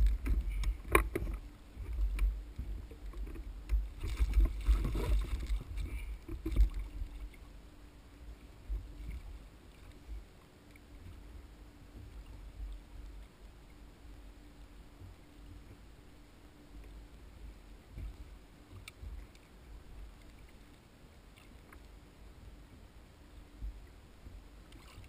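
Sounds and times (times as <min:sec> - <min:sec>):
wind and water rumble: 0:00.0 - 0:25.0.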